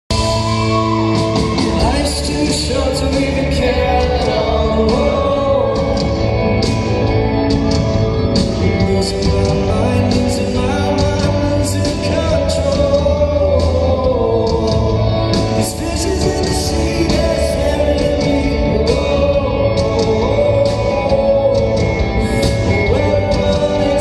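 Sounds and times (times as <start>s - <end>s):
man singing: 0.1s - 7.5s, 8.4s - 24.0s
band playing sustained chords: 0.1s - 24.0s.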